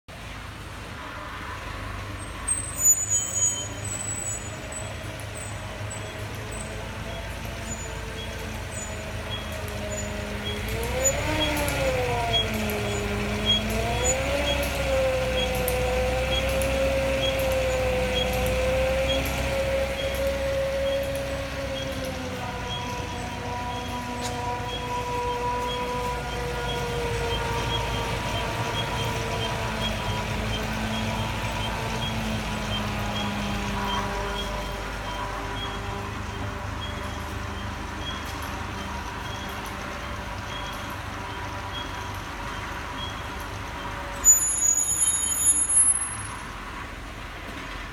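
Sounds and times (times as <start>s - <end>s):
brake squealing: 0.1s - 47.9s
vehicle running noise: 0.1s - 47.9s.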